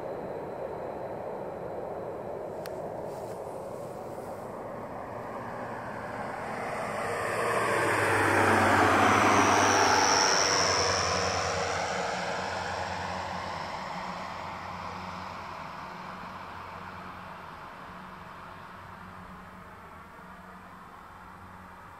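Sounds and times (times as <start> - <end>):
jet airliner passing overhead: 0.0 - 18.0.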